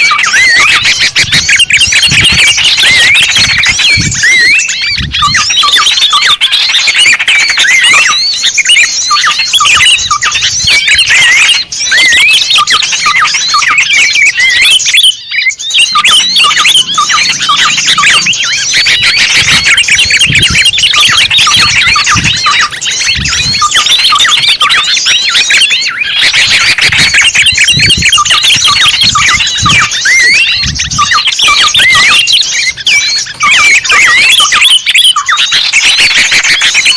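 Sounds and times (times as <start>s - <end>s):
small birds chirping and twittering: 0.0s - 36.9s.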